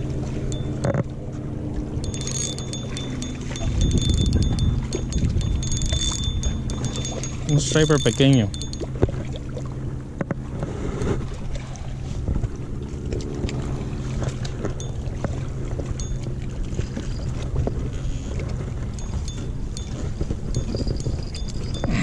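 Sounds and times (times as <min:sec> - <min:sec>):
motorboat engine droning: 0:00.0 - 0:22.0.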